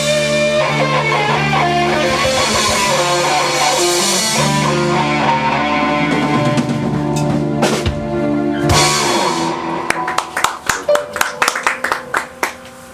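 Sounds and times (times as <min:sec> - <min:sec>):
sustained bass notes: 0:00.0 - 0:10.4
electric guitar: 0:00.0 - 0:12.9.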